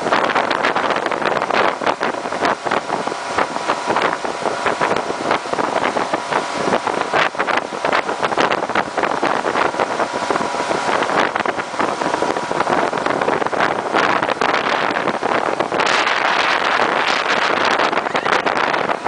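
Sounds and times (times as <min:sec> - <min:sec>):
boat engine running: 0:00.0 - 0:19.0
rushing wake water: 0:00.0 - 0:19.0
wind buffeting microphone: 0:00.0 - 0:19.0.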